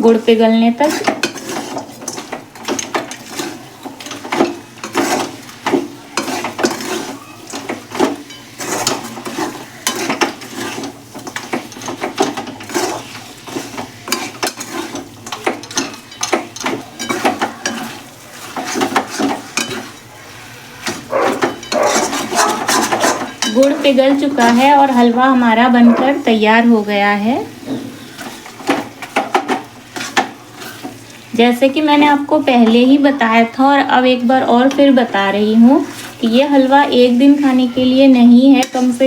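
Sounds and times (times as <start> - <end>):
light sizzle: 0.0 - 39.0
spoon scraping a pan: 0.0 - 39.0.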